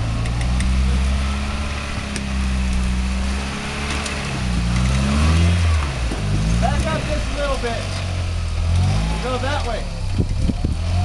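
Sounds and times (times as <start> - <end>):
off-road vehicle engine at low revs: 0.0 - 11.0.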